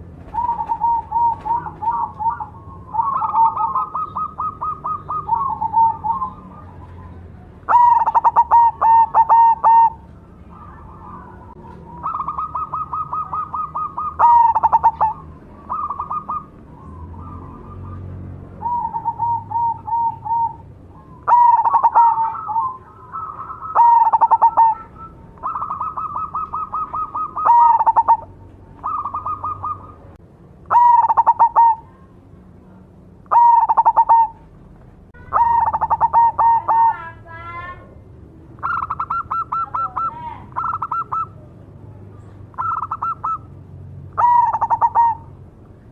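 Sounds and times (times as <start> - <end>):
dove cooing: 0.0 - 32.1, 33.2 - 34.5, 35.2 - 37.3, 38.6 - 41.6, 42.2 - 43.5, 44.1 - 45.4.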